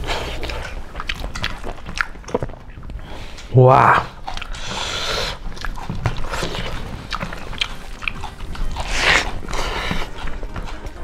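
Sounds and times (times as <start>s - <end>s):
chewing and wet mouth smacks: 0.0s - 3.5s, 4.1s - 11.0s.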